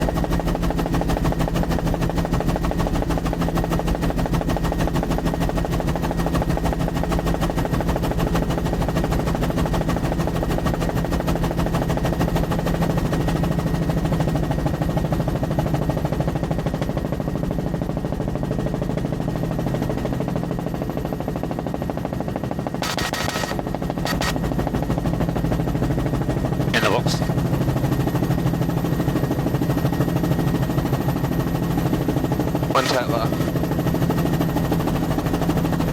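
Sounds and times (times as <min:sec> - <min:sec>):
helicopter flying: 0:00.0 - 0:35.9.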